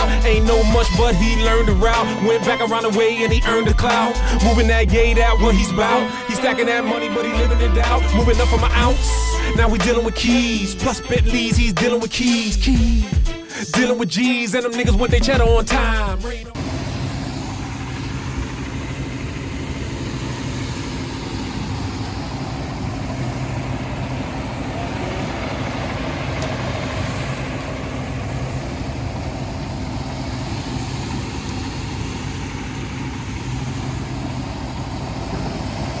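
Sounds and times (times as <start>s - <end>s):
heavy engine idling: 0.0s - 36.0s.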